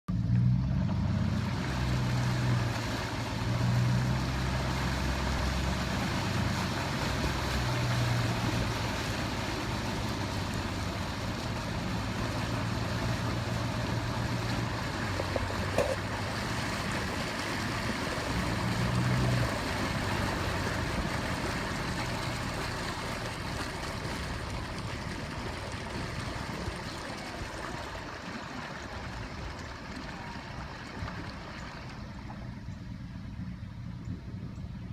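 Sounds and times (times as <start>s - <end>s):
low engine hum: 0.1s - 34.9s.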